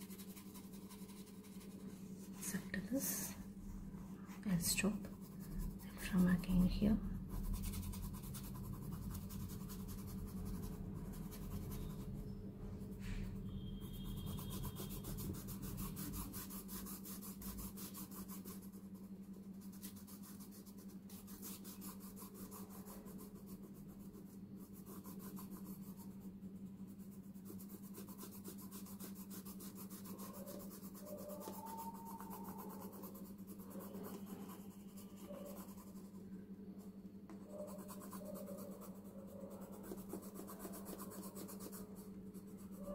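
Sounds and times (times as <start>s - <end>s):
pencil scratching on paper: 0.0s - 3.3s, 4.5s - 12.3s, 13.4s - 36.2s, 37.3s - 42.9s.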